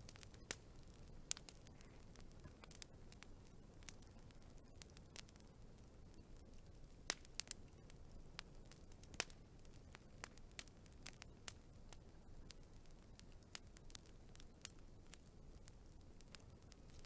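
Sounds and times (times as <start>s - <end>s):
faint low hiss: 0.0s - 17.0s
wood fire crackling: 0.0s - 17.0s.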